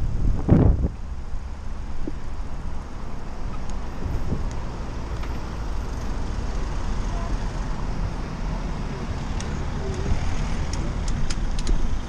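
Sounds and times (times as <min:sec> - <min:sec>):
cars driving past: 0:01.0 - 0:12.0.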